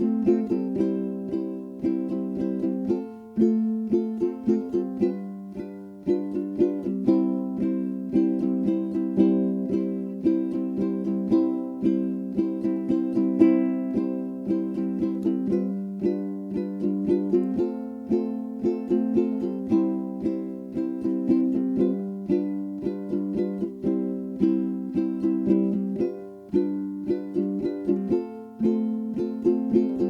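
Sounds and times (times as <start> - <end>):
plucked-string tune with beat: 0.0 - 30.0.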